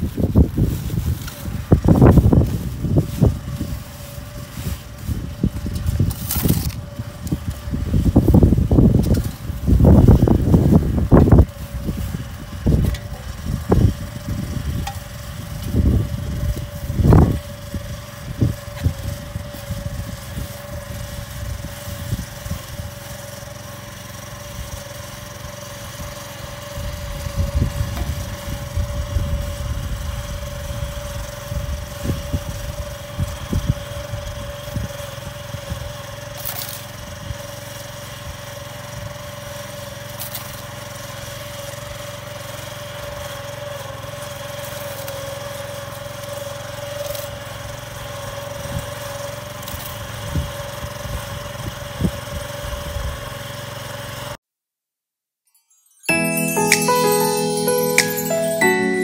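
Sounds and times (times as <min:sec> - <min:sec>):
small engine droning: 0:00.0 - 0:54.4.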